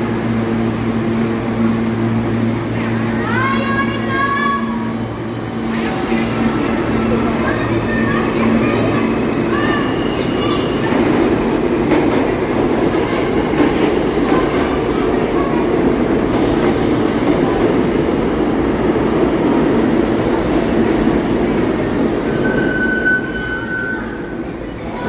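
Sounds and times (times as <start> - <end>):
subway train rumbling on rails: 0.0 - 25.0.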